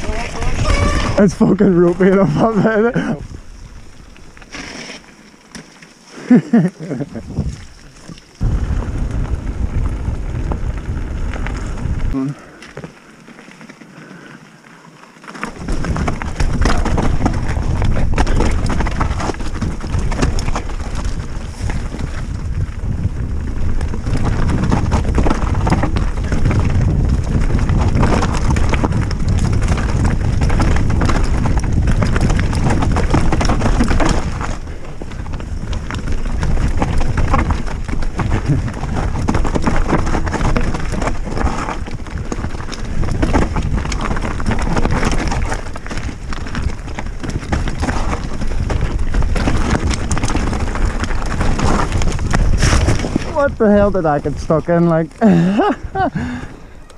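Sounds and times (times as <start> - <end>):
mountain bike rattling over roots: 0.0 - 56.9
tyre and wind rumble: 0.0 - 56.9.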